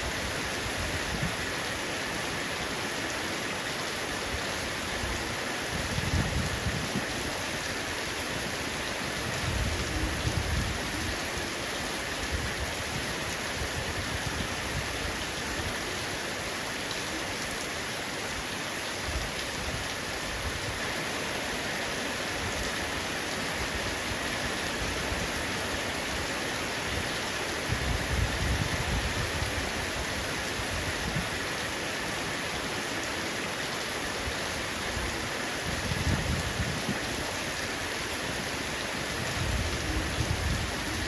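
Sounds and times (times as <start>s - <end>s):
heavy rain on a roof: 0.0s - 41.0s.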